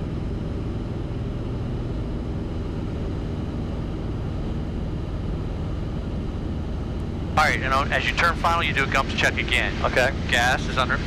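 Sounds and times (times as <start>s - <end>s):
aircraft engine and propeller droning: 0.0s - 11.0s.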